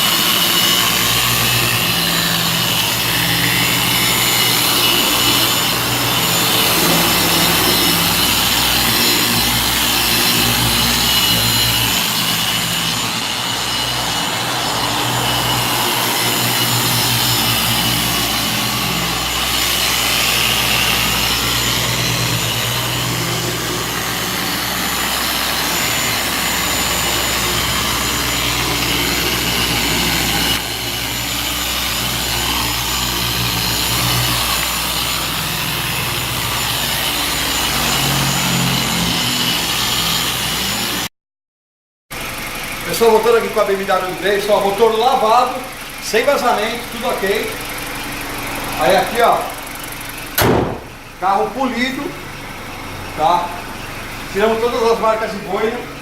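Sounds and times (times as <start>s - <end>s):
polishing machine motor hum: 0.0s - 41.1s, 42.2s - 56.0s.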